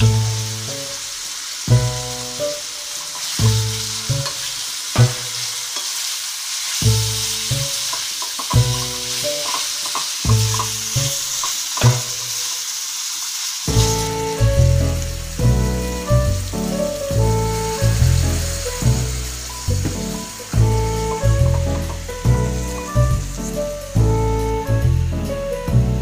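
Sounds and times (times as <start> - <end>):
background music: 0.0 - 5.5, 6.8 - 12.2, 13.7 - 26.0
meat sizzling in a wok: 0.0 - 26.0.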